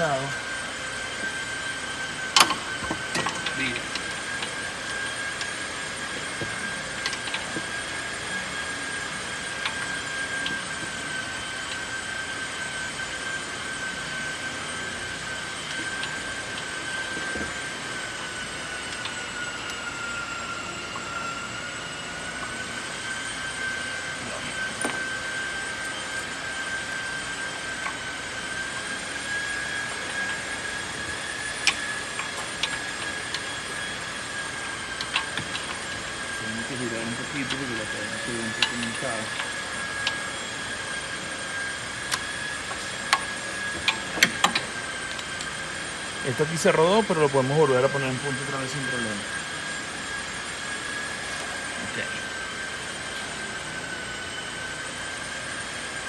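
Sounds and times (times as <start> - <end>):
high-pitched machine whine: 0.0 - 56.0.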